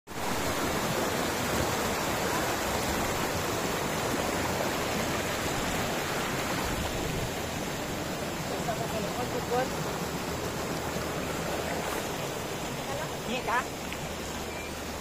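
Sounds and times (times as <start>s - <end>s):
stream rushing over boulders: 0.1s - 15.0s.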